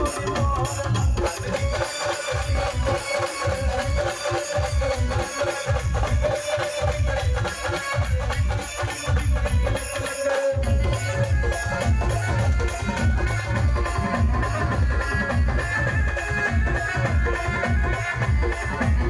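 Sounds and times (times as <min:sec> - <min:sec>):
heavy pulsing drum beat: 0:00.0 - 0:19.0.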